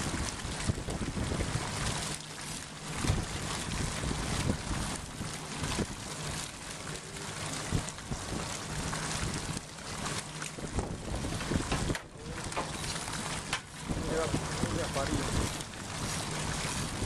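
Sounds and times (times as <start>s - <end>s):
wind noise on microphone: 0.0s - 2.1s, 2.9s - 6.0s, 7.5s - 9.6s, 10.5s - 17.0s
boat engine low hum: 0.0s - 17.0s.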